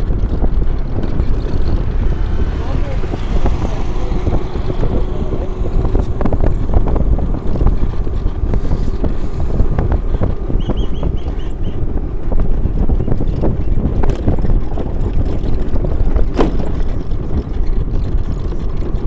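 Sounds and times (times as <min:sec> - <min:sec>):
moving vehicle rumble: 0:00.0 - 0:19.0
small knocks on rough road: 0:00.0 - 0:19.0
wind buffeting microphone: 0:00.0 - 0:19.0.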